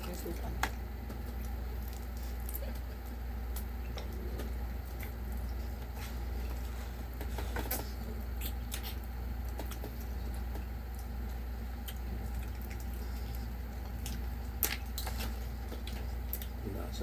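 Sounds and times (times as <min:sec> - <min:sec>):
chewing and handling food: 0:00.0 - 0:17.0
steady low hum: 0:00.0 - 0:17.0.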